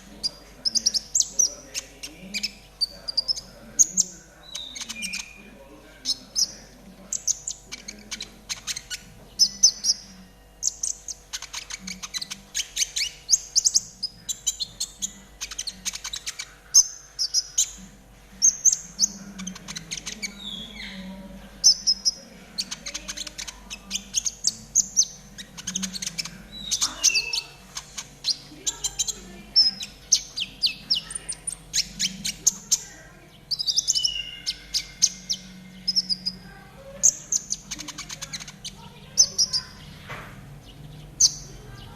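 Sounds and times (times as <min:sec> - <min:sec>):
faint steady hum: 0:00.0 - 0:41.9
songbird trills and chirps: 0:00.0 - 0:41.9.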